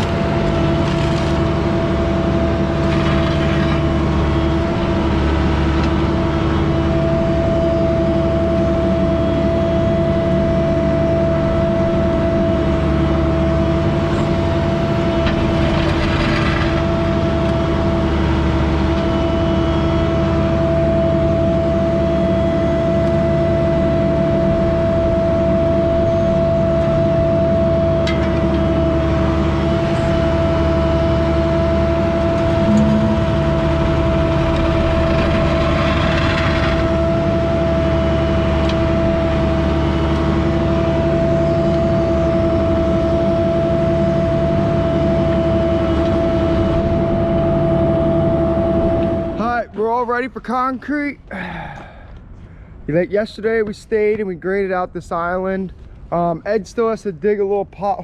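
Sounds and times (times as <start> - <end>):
constant engine whine: 0.0 - 58.0
diesel engine running: 0.0 - 58.0.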